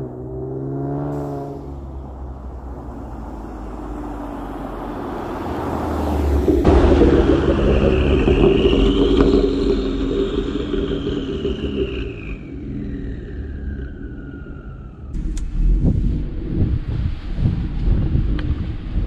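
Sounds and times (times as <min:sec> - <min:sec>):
car exhaust driving past: 0:00.0 - 0:19.0
exhaust revving: 0:00.0 - 0:19.0
high whine falling in pitch: 0:01.8 - 0:19.0.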